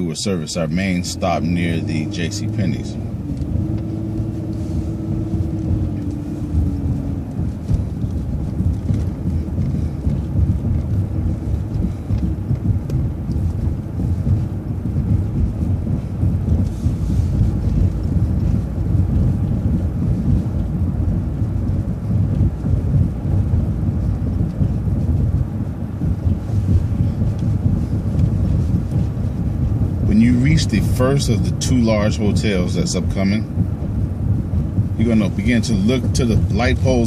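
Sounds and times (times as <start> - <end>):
vehicle road and engine rumble: 0.0 - 37.0.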